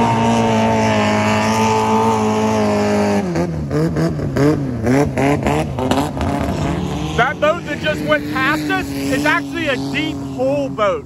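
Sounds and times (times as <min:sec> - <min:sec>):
boat engine revving: 0:00.0 - 0:11.0.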